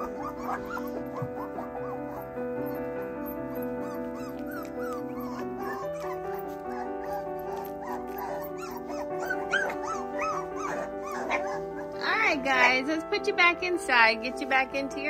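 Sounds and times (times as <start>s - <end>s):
puppies whimpering and yipping: 0.0s - 13.2s
background music with held notes: 0.0s - 15.0s.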